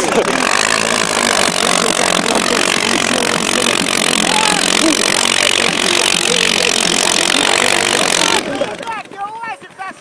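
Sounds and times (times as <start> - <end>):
quad bike engine under load: 0.0 - 10.0
wheels throwing up snow: 0.0 - 10.0.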